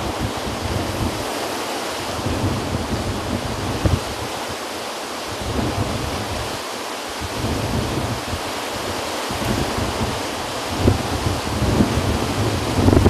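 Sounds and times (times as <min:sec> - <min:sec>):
heavy rain: 0:00.0 - 0:13.0
wind gusts buffeting microphone: 0:00.0 - 0:13.0.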